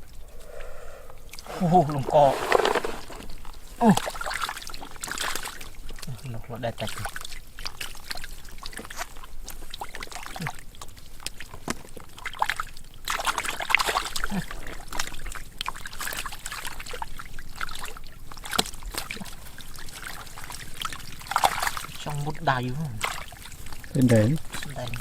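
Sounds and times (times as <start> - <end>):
water splashing and trickling: 0.0 - 25.0.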